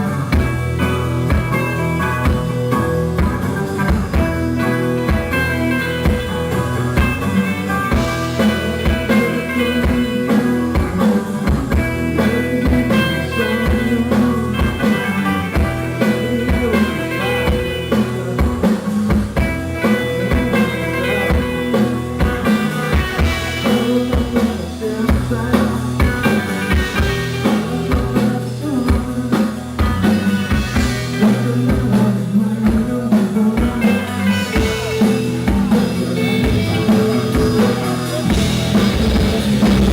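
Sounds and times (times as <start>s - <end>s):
drum kit steady beat: 0.0s - 39.9s
rock band playing live: 0.0s - 39.9s.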